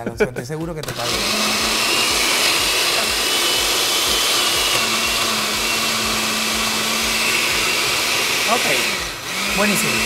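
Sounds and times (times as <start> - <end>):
blender motor whining: 0.8 - 10.0.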